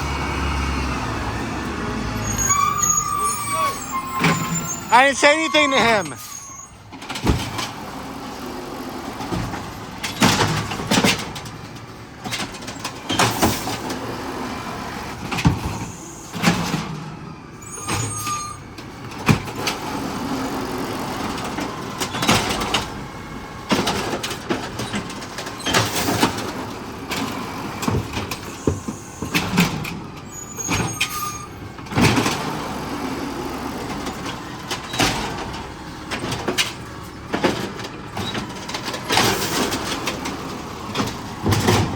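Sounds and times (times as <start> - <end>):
garbage truck engine rumble: 0.0 - 41.9.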